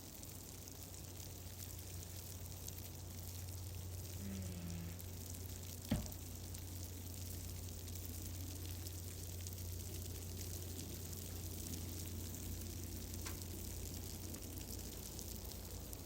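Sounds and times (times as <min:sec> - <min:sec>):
fire popping: 0:00.0 - 0:16.0
steady low hum: 0:00.0 - 0:16.0
wood fire crackling: 0:00.0 - 0:16.0.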